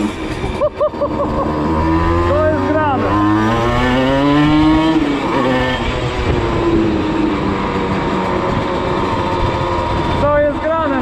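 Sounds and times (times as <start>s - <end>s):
two-stroke engine under load: 0.0s - 11.0s.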